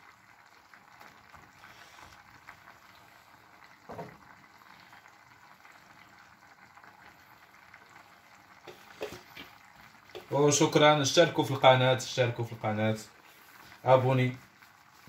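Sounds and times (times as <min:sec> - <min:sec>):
faint bubbling of simmering pot: 0:00.0 - 0:15.0.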